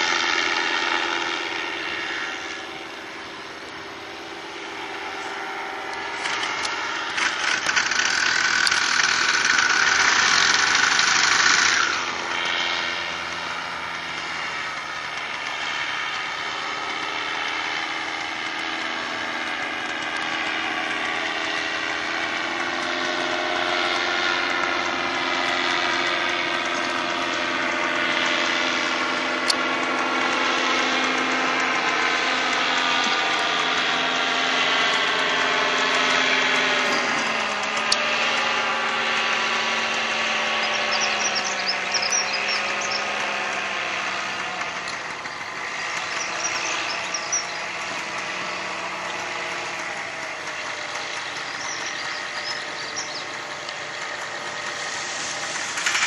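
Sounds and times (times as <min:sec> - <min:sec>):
paramotor engine drone: 0:00.0 - 0:56.0.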